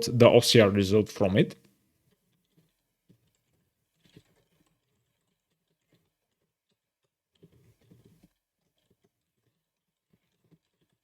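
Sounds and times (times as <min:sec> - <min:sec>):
faint keyboard typing: 0:02.1 - 0:11.0.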